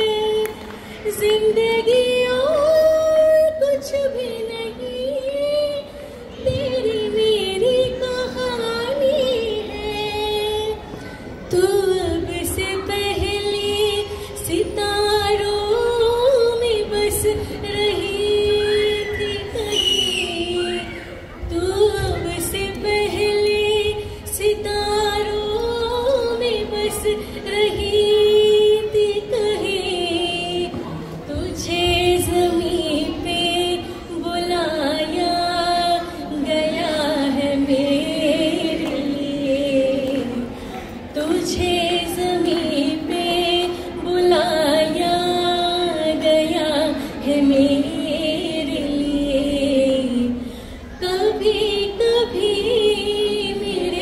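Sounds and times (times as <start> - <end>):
woman singing into microphone: 0.0 - 54.0.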